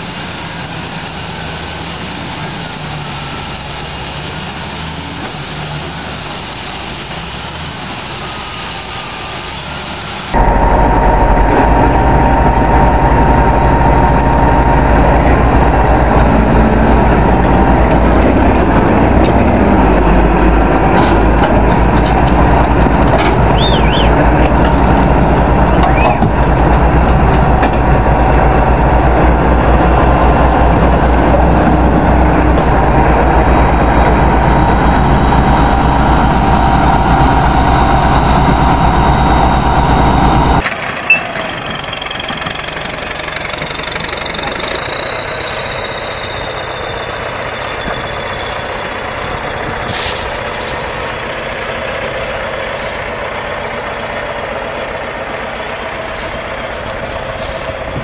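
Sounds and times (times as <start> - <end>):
bulldozer diesel engines rumbling: 0.0 - 58.0.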